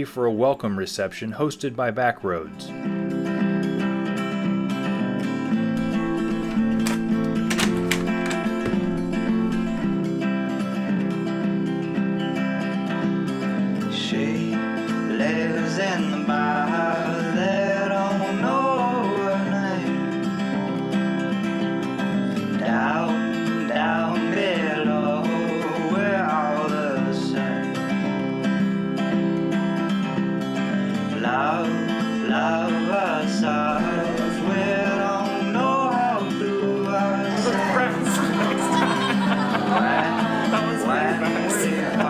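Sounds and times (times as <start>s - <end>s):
acoustic guitar music: 0.0s - 42.0s.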